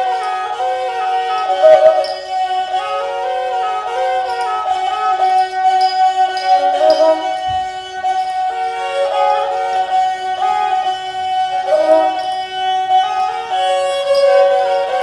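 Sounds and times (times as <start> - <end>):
bowed fiddle playing: 0.0 - 15.0.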